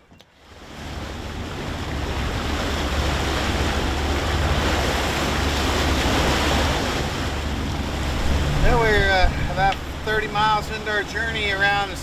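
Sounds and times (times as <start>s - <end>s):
rushing sea: 0.0s - 12.0s
wind: 0.0s - 12.0s
wind buffeting microphone: 0.7s - 12.0s
steady low rumble: 1.0s - 12.0s.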